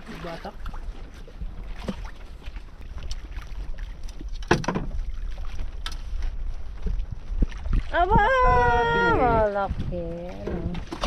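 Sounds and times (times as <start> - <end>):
water lapping around boat: 0.0 - 11.0
wind buffeting microphone: 0.0 - 11.0.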